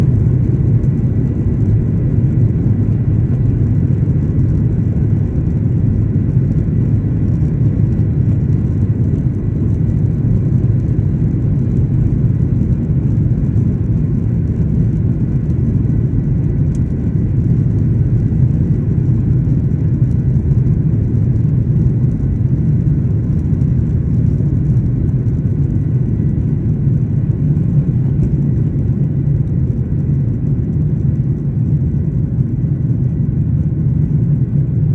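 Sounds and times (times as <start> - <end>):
airliner engines rumbling: 0.0 - 34.9.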